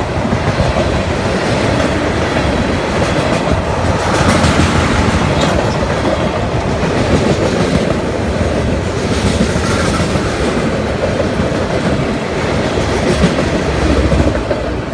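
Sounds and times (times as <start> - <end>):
freight train rumbling past: 0.0 - 14.9
steel wheels clattering on rails: 0.0 - 14.9.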